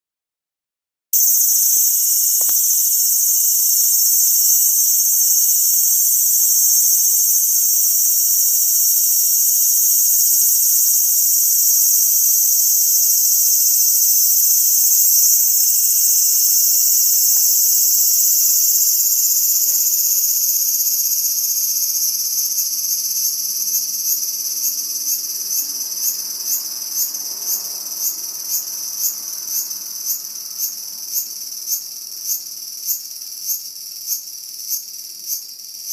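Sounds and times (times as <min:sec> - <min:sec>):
cicada buzzing: 0:01.2 - 0:35.9.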